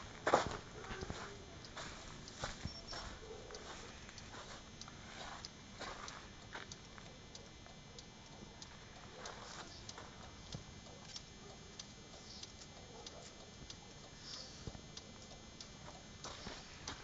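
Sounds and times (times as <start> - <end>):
turn-signal flasher ticking: 0.0 - 17.0.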